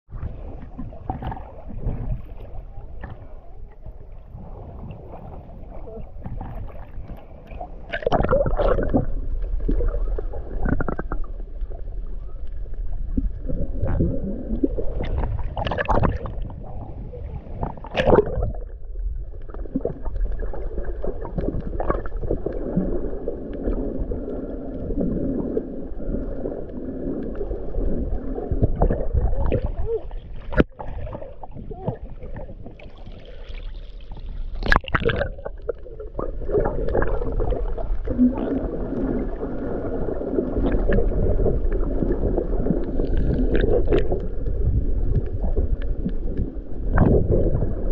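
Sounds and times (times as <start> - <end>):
muffled underwater rumble: 0.1 - 47.9
sea water sloshing and splashing: 0.1 - 47.9.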